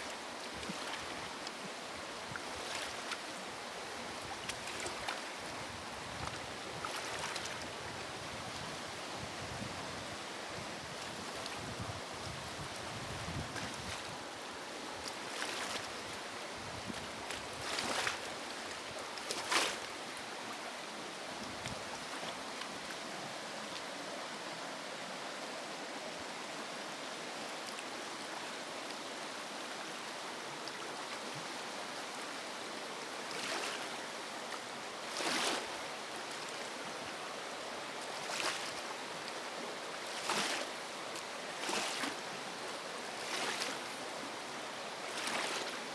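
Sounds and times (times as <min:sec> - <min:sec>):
river water running: 0:00.0 - 0:45.9.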